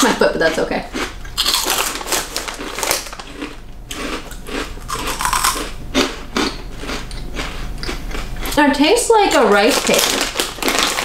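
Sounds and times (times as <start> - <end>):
crunching and chewing snack: 0.0 - 8.6, 9.7 - 11.0.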